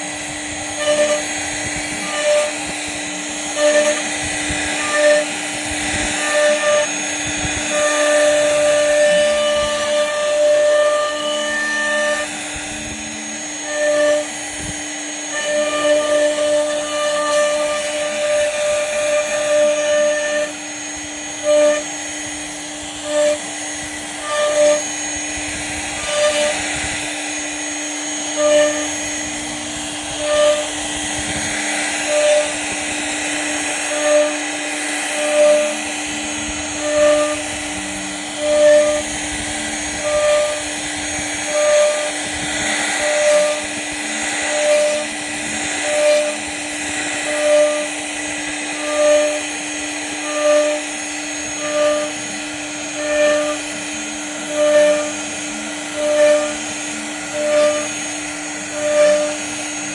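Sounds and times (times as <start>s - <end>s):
power tool humming: 0.0s - 59.9s.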